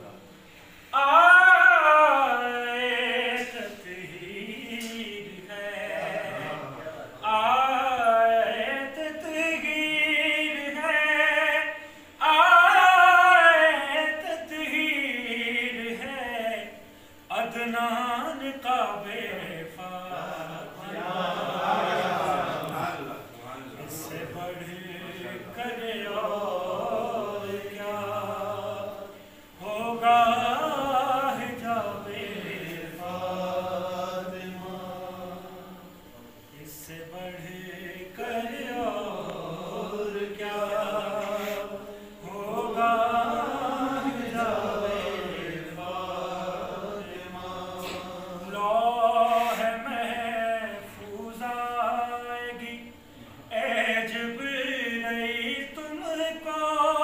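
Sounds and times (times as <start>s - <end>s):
man reciting melodic poem: 0.0s - 57.0s.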